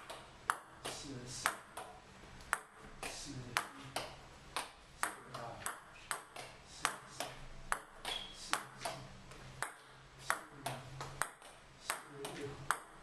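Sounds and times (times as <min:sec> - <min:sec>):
ping pong ball bouncing on table: 0:00.0 - 0:13.0
ping pong ball clicking off paddles: 0:00.0 - 0:13.0.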